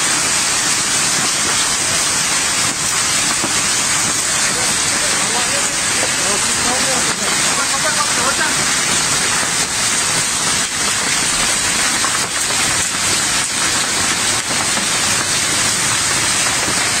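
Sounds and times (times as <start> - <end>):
torrential rain on canvas awning: 0.0 - 17.0.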